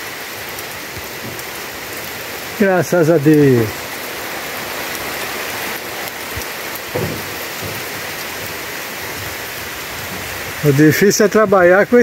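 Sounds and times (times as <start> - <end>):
heavy rain on leaves: 0.0 - 12.0.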